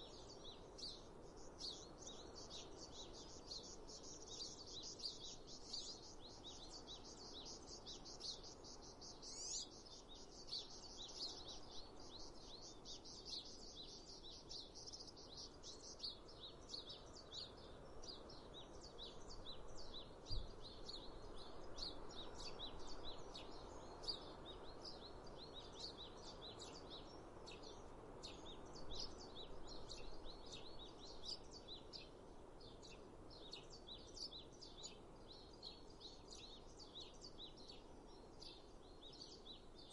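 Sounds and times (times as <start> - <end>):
soft background hiss: 0.0 - 39.9
songbirds chirping and twittering: 0.0 - 39.9.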